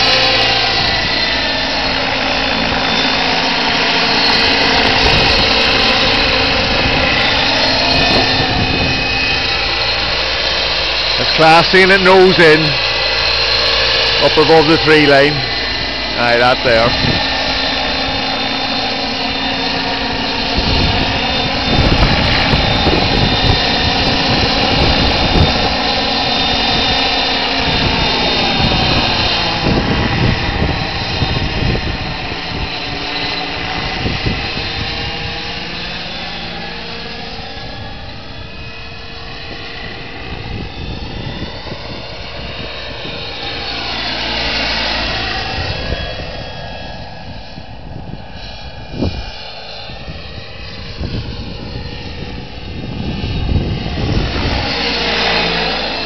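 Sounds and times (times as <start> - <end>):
model helicopter turbine whine: 0.0 - 56.0
rotor blades: 0.0 - 56.0.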